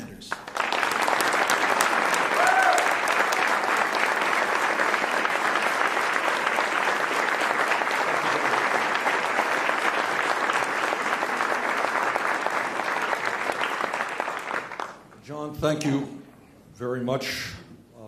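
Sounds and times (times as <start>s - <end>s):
audience applauding: 0.3s - 15.2s.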